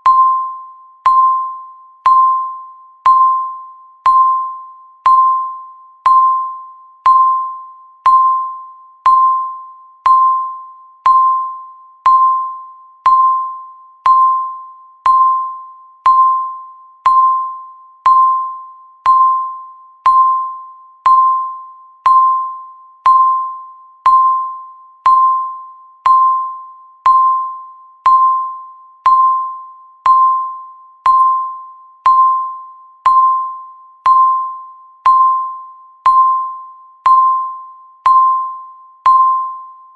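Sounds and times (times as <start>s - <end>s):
timer ping ticks: 0.0s - 39.7s.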